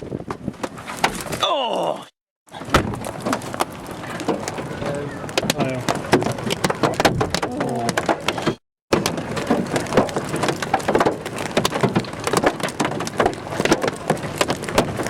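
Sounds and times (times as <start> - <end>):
hailstones clattering: 2.6 - 15.0.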